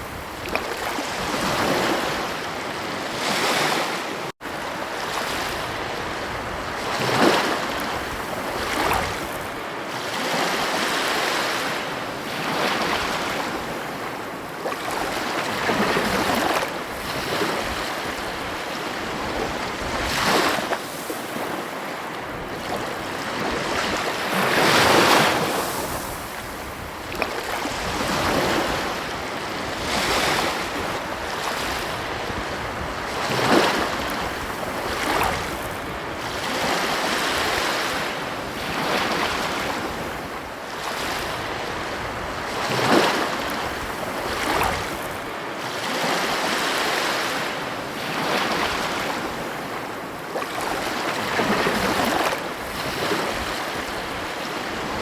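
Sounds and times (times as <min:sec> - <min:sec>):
wind on microphone: 0:00.0 - 0:46.4, 0:47.7 - 0:55.0
ocean waves breaking on beach: 0:00.0 - 0:55.0.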